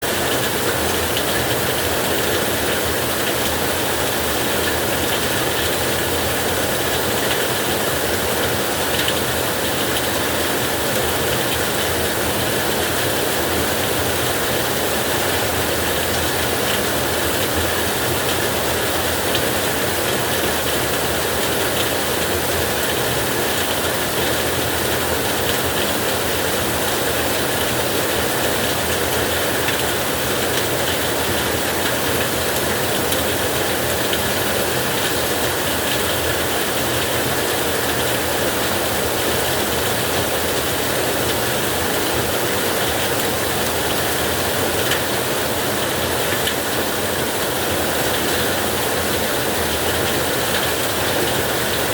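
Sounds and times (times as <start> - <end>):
heavy rain on a tin roof: 0.0 - 51.9.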